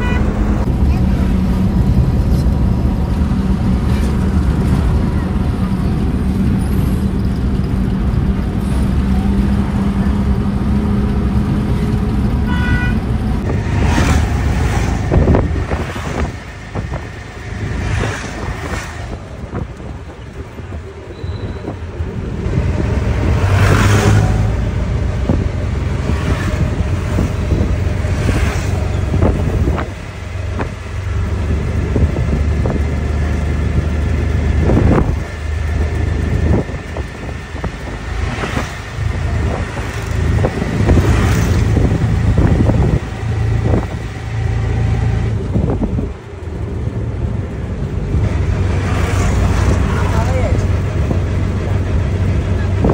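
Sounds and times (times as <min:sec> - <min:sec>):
car engine and road hum: 0:00.0 - 0:52.9
vehicles swishing past: 0:00.0 - 0:52.9.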